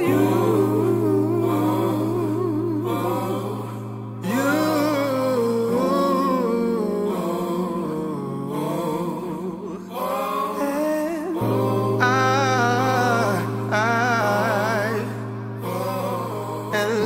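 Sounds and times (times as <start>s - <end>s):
soul song with sung vocals: 0.0s - 17.0s.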